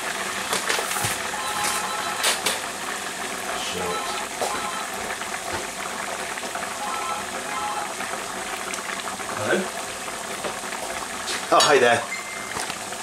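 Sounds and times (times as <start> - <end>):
margarine sizzling in saucepan: 0.0 - 13.0.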